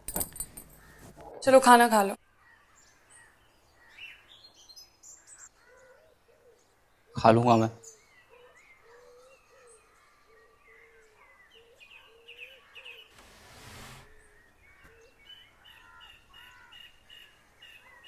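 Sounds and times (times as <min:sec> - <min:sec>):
faint birds chirping: 0:00.6 - 0:18.0.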